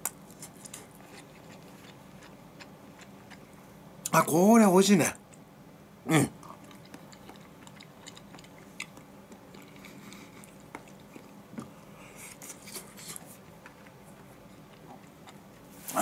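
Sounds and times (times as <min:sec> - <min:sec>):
person chewing quietly: 0:00.0 - 0:04.2, 0:06.2 - 0:16.0.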